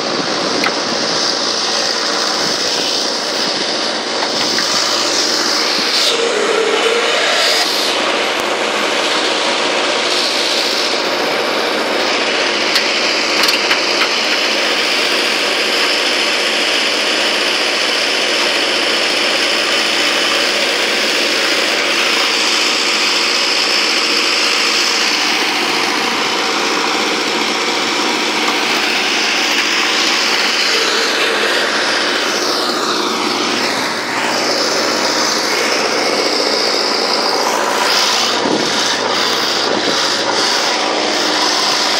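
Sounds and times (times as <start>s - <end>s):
diesel engine under load: 0.0s - 41.9s.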